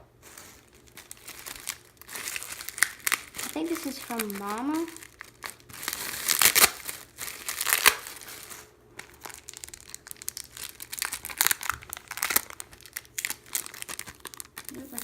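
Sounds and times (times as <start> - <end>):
packaging crinkling and rustling: 0.2 - 15.0.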